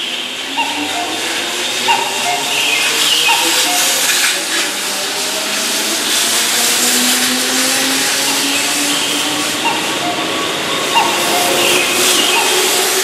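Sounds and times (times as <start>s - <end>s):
train wheels rushing: 0.0s - 13.0s.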